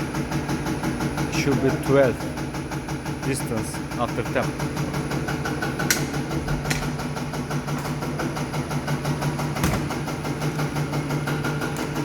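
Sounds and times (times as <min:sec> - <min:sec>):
pump test bench pulsing: 0:00.0 - 0:12.0.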